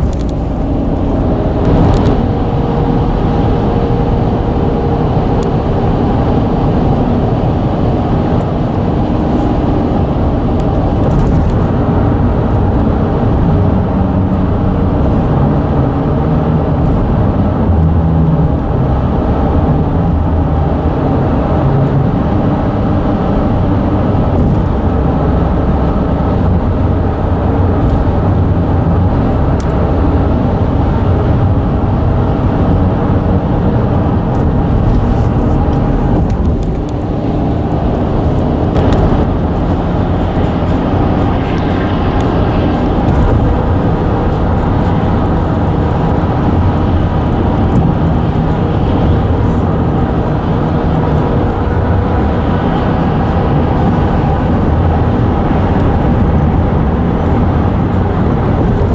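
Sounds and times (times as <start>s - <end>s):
bridge rumbling under traffic: 0.0s - 58.9s.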